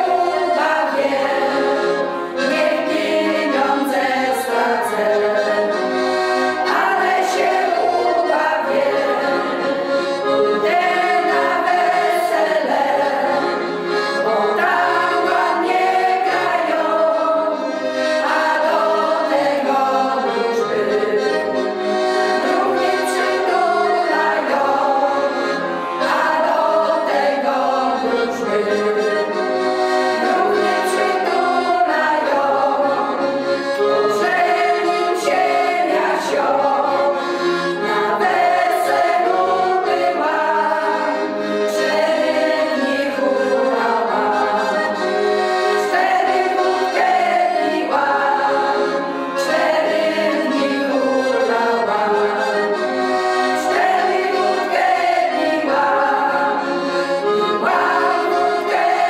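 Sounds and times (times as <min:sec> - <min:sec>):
piano accordion: 0:00.0 - 0:59.0
women singing folk song together: 0:00.0 - 0:59.0.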